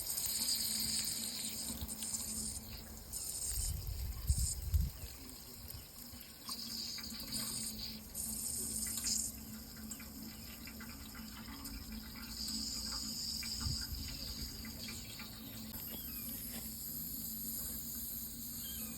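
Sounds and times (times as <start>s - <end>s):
insects trilling: 0.0s - 18.9s
running water: 0.0s - 18.9s.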